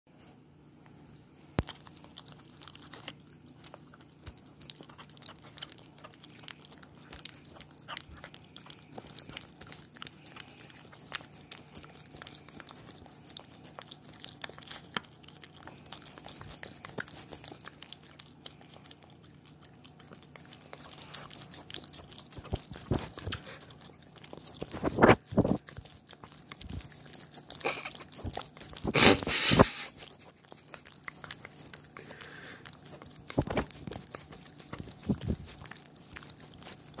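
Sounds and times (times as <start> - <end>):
puppy licking microphone: 1.5 - 37.0.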